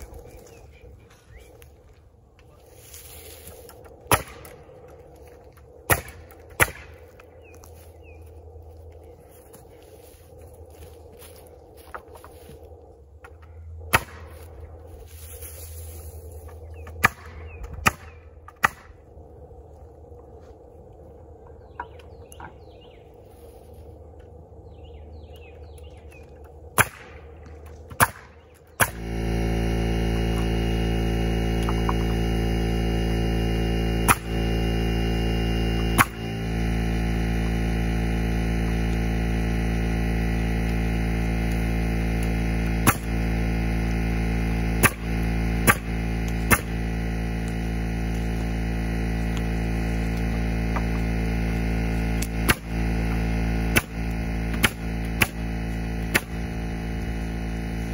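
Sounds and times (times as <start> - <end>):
loud steady hum: 0.0 - 57.9.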